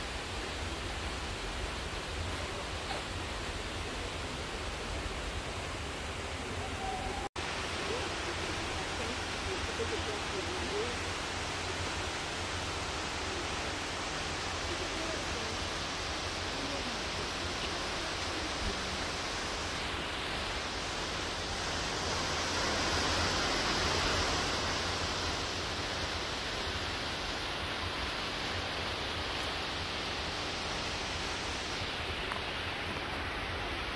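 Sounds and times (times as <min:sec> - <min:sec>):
steady rushing hiss: 0:00.0 - 0:33.9.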